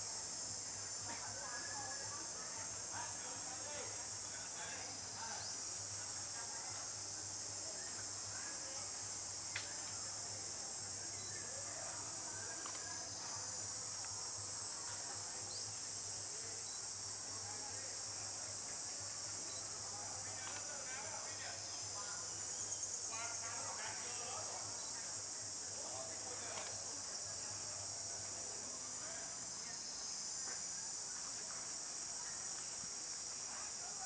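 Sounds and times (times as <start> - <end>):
insect chorus drone: 0.0 - 34.0.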